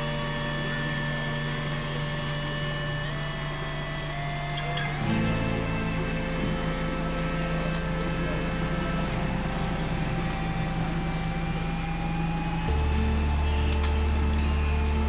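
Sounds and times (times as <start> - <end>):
sustained low chords: 0.0 - 15.0.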